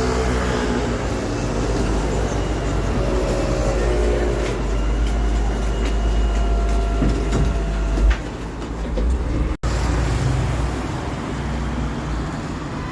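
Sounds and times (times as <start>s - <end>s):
garbage truck rumbling: 0.0s - 11.5s.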